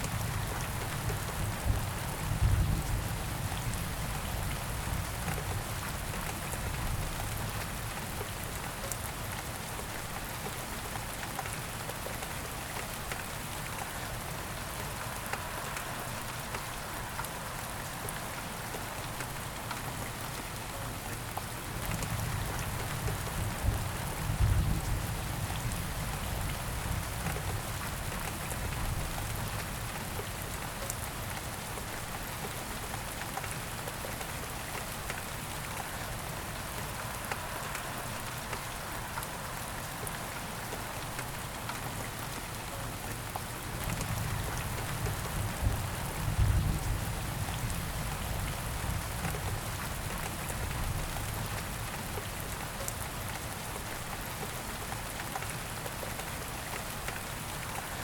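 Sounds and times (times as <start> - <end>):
rain pattering: 0.0 - 58.0.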